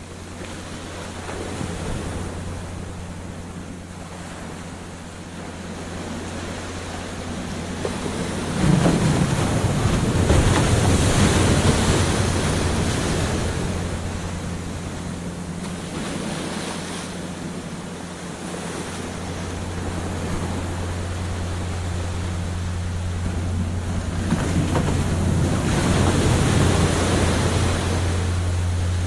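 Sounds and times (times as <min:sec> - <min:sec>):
waves breaking on beach: 0:00.0 - 0:29.0
wind rumble on microphone: 0:00.0 - 0:29.0.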